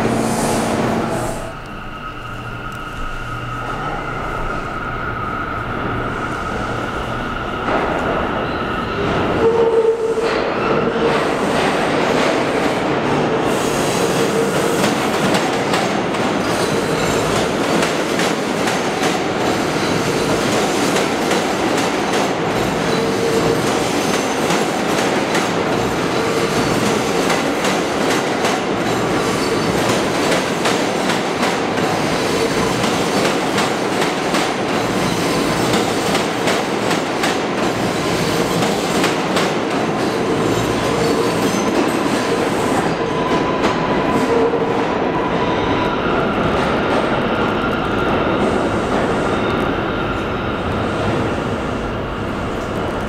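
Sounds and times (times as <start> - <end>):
subway train rumble: 0.0 - 53.0.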